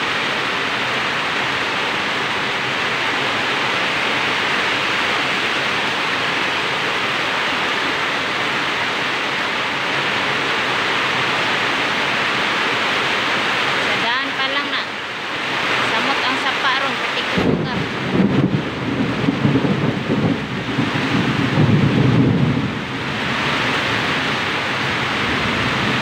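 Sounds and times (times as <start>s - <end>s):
floodwater rushing and cascading: 0.0s - 26.0s
heavy rain: 0.0s - 26.0s.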